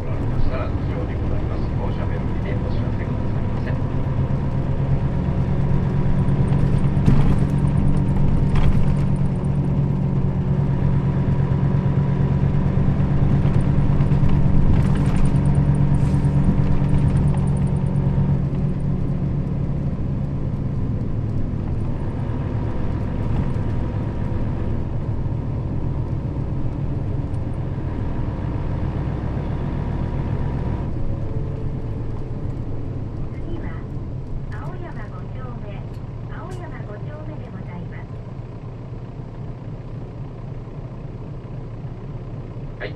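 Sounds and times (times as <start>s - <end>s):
bus diesel engine drone: 0.0s - 42.9s.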